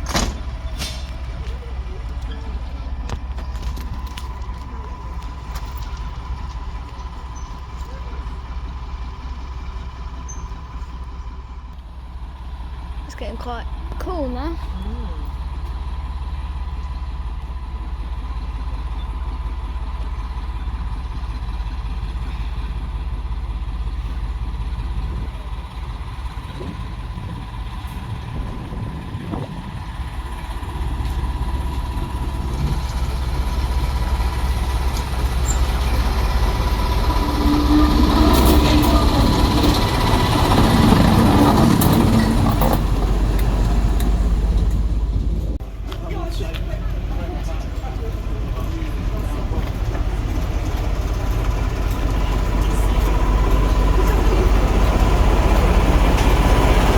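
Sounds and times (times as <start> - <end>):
diesel engine rumbling: 0.0 - 56.9
noisy roar: 0.0 - 56.9.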